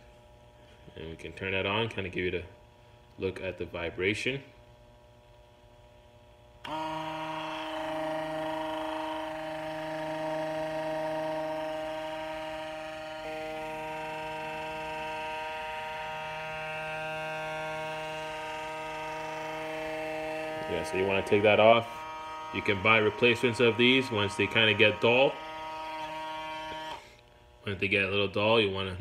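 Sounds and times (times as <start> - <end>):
electric shaver motor running: 4.6 - 28.6.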